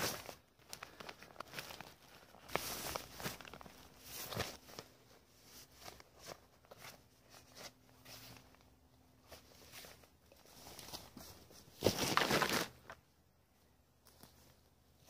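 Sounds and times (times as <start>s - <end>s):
crackling rustle: 0.0s - 13.0s
rustling and light crunching: 0.0s - 13.0s.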